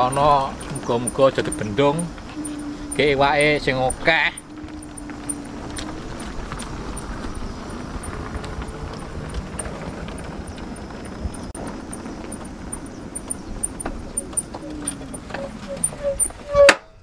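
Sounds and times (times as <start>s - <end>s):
road and tyre noise: 0.0s - 17.0s
wind rumbling on microphone: 0.0s - 17.0s.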